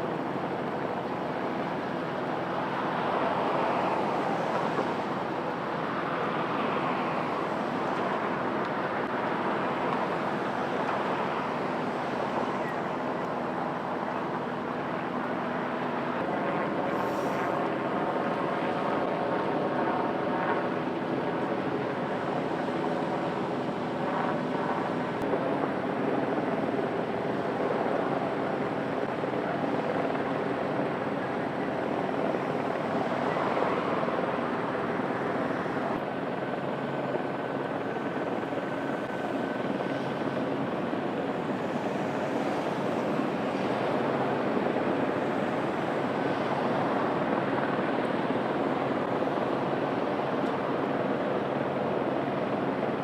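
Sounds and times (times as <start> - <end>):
helicopter rotor drone: 0.0 - 53.0.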